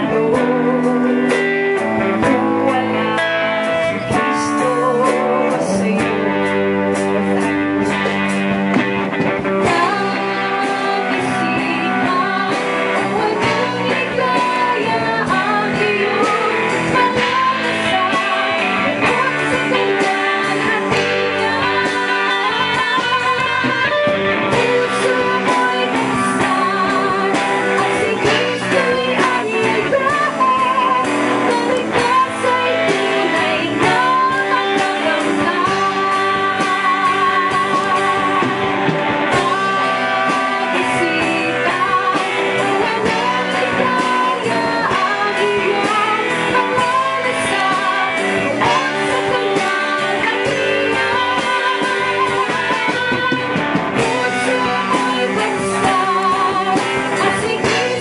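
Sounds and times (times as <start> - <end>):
bass guitar: 0.0 - 58.0
electric guitar: 0.0 - 58.0
woman singing into a microphone: 0.0 - 58.0.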